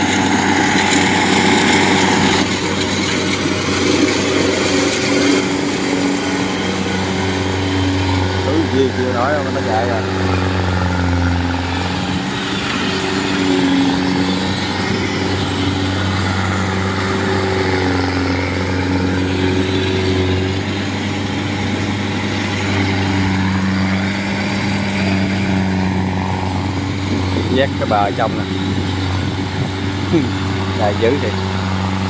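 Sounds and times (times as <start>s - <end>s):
cutting and threshing machinery: 0.0s - 32.0s
diesel engine under load: 0.0s - 32.0s.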